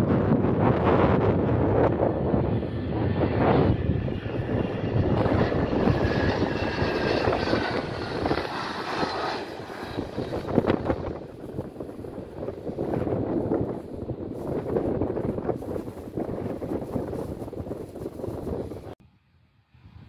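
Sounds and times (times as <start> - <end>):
wind buffeting microphone: 0.0 - 19.0
jet engines rumbling overhead: 0.0 - 20.0.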